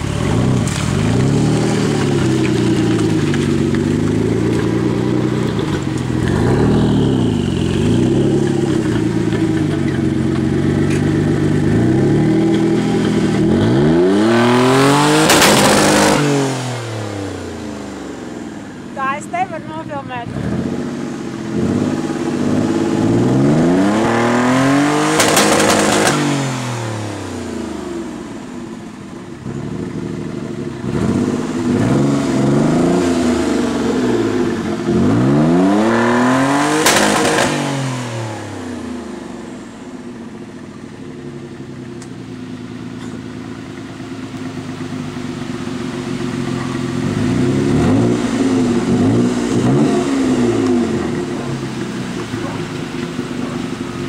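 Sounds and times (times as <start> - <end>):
car engine idling: 0.0 - 54.0
car engine revving: 0.0 - 54.0.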